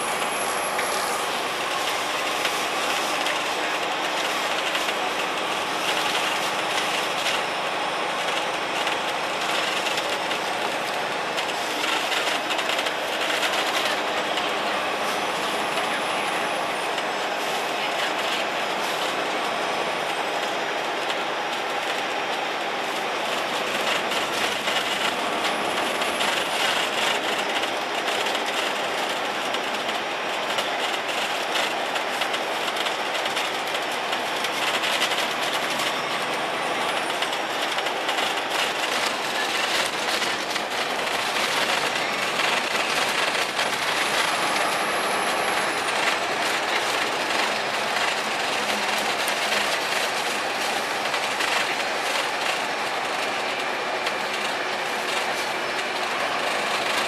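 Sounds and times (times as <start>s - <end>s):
bus diesel engine running: 0.0s - 57.0s
road noise: 0.0s - 57.0s.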